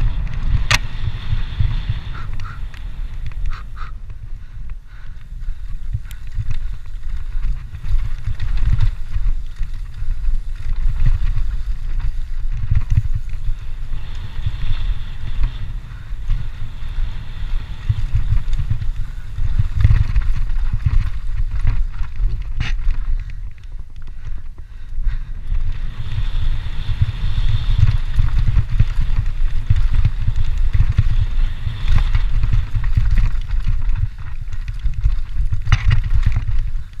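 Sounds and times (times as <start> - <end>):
bike clicks and rattles: 0.0 - 37.0
wind noise on microphone: 0.0 - 37.0.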